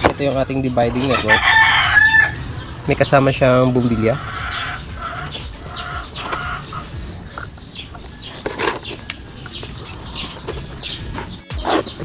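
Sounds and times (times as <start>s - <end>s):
small birds chirping: 0.0s - 12.0s
chickens clucking: 0.8s - 12.0s.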